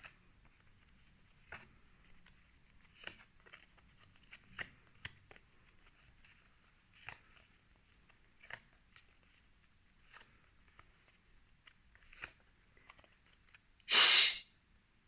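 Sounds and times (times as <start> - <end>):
paper flashcards rustling: 0.0 - 13.7.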